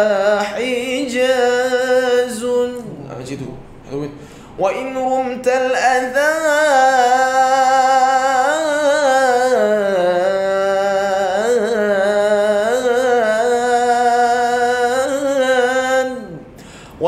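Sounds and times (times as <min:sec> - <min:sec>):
man chanting unaccompanied: 0:00.0 - 0:16.5.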